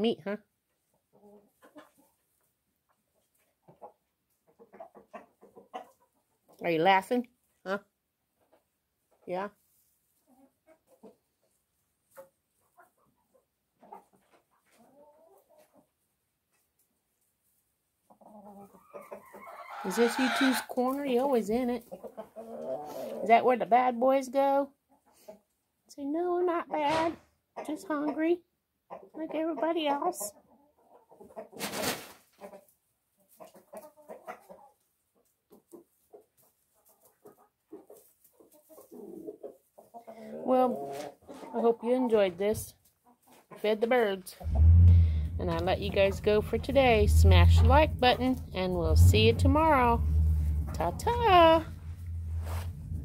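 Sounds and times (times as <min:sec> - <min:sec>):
chickens clucking: 0:00.7 - 0:07.0, 0:10.0 - 0:16.7, 0:18.0 - 0:23.5, 0:26.6 - 0:53.0.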